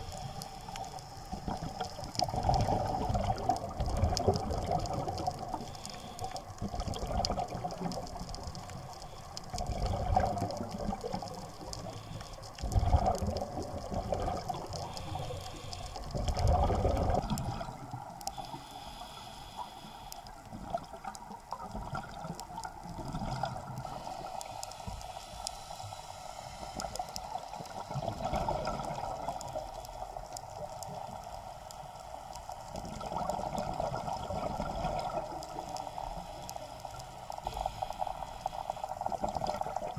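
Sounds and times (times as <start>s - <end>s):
underwater regulator bubbles: 0.0s - 8.8s, 9.5s - 19.0s, 20.4s - 25.6s, 26.6s - 31.2s, 32.7s - 39.9s
faint crackling: 0.0s - 39.9s
steady underwater hiss: 0.0s - 39.9s.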